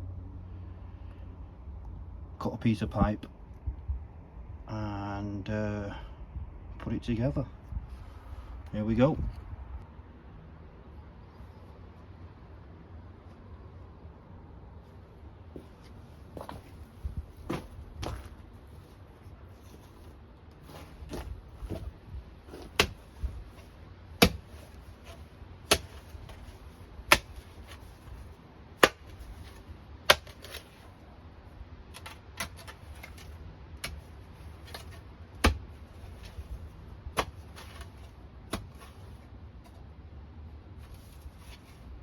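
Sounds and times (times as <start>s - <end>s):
low steady rumble: 0.0s - 42.0s.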